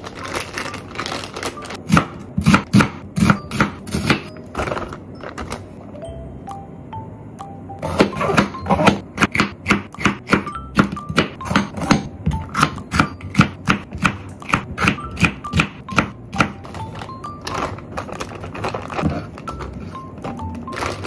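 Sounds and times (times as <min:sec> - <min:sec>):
light background music: 0:00.0 - 0:21.0.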